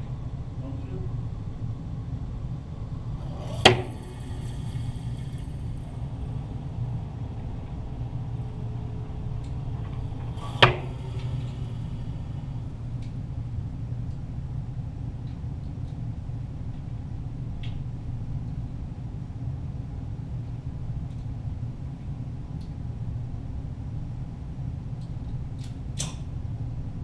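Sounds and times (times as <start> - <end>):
low hum: 0.0 - 25.6.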